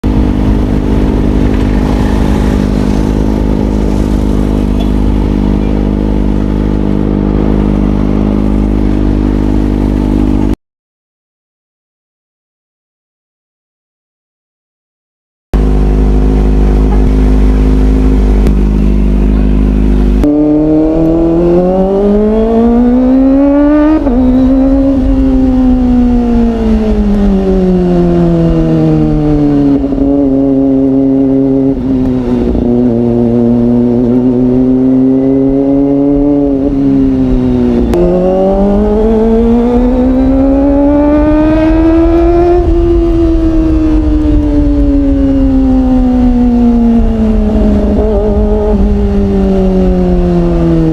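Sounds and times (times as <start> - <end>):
motorcycle engine accelerating: 0.0 - 10.6, 15.6 - 50.9.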